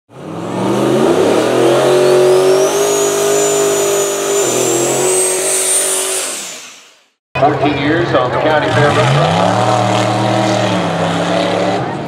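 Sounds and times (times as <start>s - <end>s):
truck engine revving: 0.1s - 12.0s.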